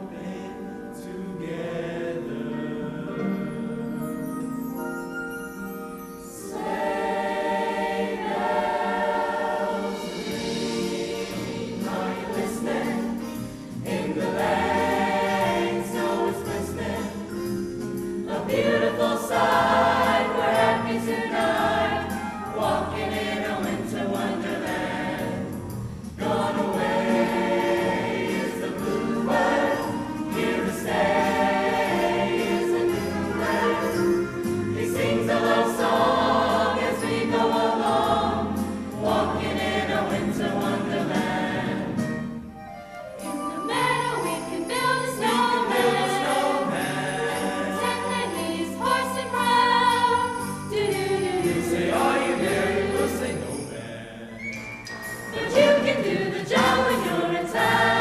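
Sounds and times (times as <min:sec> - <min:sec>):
choir singing: 0:00.0 - 0:04.7, 0:06.2 - 0:42.6, 0:43.2 - 0:58.0.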